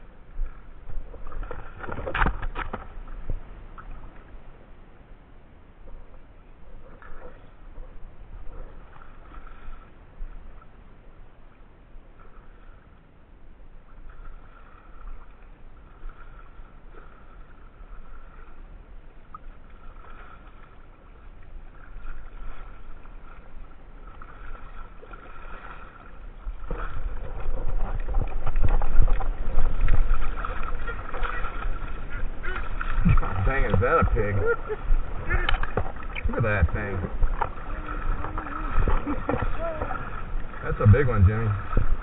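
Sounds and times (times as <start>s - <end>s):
water lapping: 0.0s - 42.0s.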